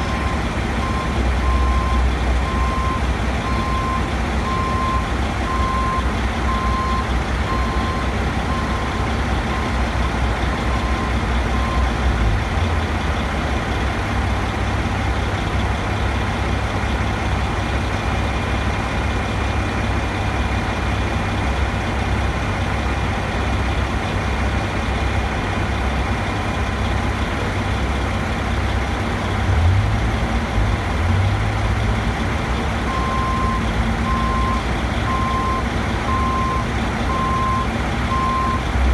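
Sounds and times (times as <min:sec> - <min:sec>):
construction machinery engine rumbling: 0:00.0 - 0:38.9.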